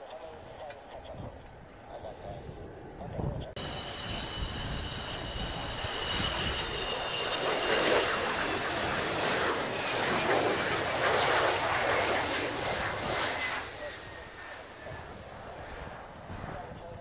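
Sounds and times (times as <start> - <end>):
jet roar: 0.0 - 17.0
high jet whine: 1.5 - 17.0.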